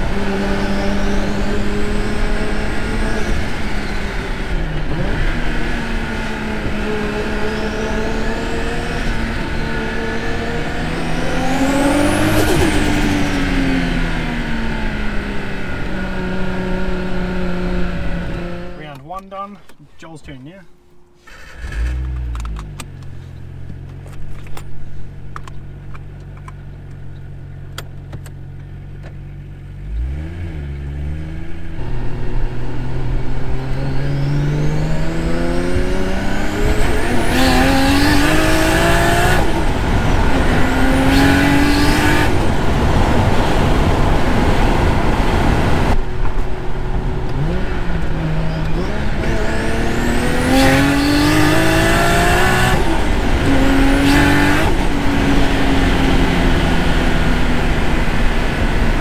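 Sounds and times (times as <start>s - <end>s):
car engine revving through gears: 0.0s - 19.0s, 21.0s - 24.7s, 25.4s - 59.0s.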